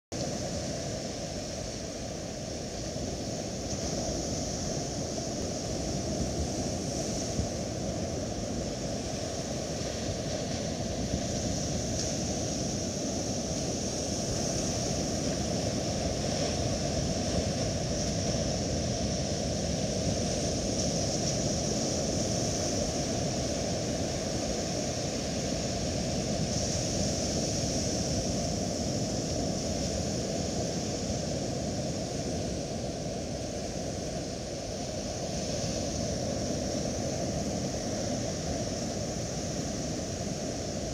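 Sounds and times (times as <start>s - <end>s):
constant high hiss: 0.2s - 40.9s.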